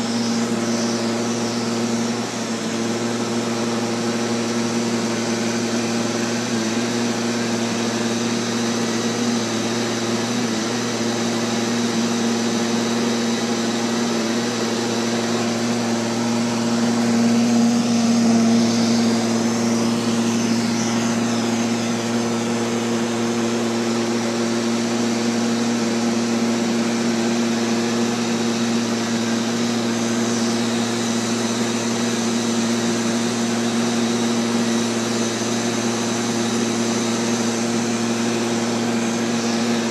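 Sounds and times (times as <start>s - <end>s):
robotic vacuum motor hum: 0.0s - 39.9s.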